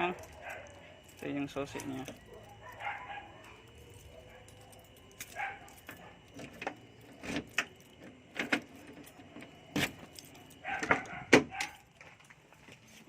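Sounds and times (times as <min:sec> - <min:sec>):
keys jangling: 0:00.0 - 0:13.0.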